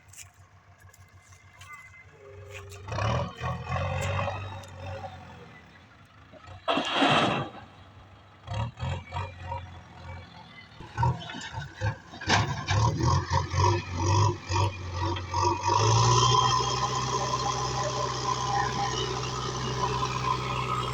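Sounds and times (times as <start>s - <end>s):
diesel engine working: 0.0s - 20.9s.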